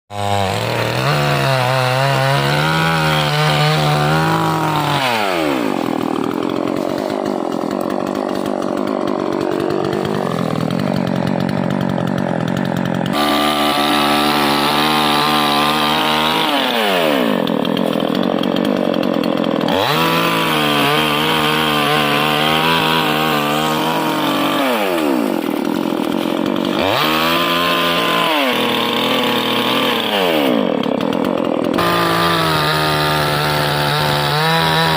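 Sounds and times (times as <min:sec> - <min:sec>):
chainsaw revving and idling: 0:00.1 - 0:34.9.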